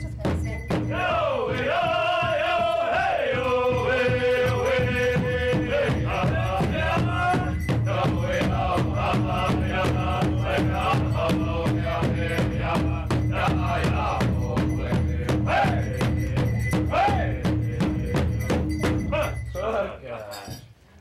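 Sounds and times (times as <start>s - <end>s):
large hide drum beating: 0.0s - 19.4s
group singing high chant: 0.8s - 20.0s.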